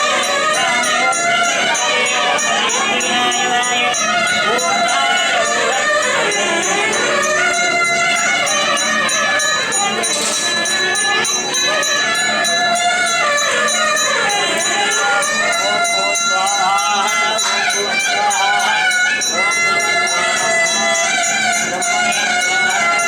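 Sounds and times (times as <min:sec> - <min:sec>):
gliding devotional melody: 0:00.0 - 0:23.0
jingling percussion beat: 0:00.0 - 0:23.0.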